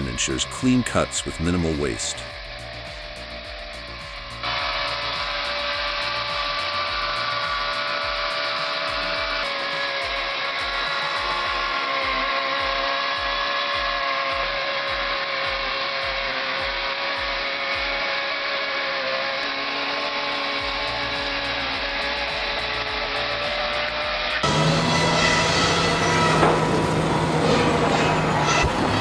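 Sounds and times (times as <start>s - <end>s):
background music with beat: 0.0s - 18.6s, 19.4s - 29.0s
power tool motor whining: 0.0s - 29.0s.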